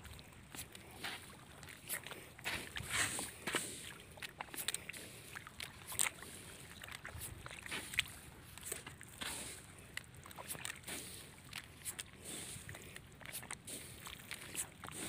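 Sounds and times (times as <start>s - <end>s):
footsteps squelching through mud: 0.0s - 15.0s.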